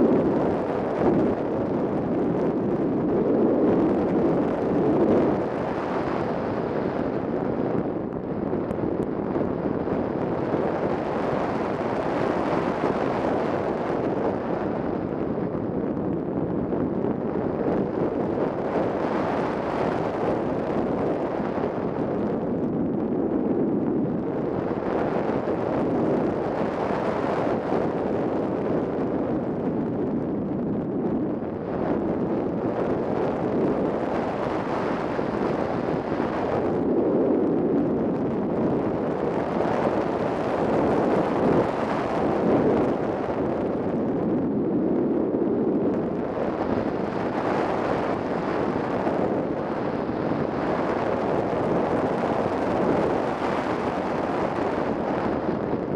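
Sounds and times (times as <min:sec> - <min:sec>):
wind noise rushing: 0:00.0 - 0:55.9.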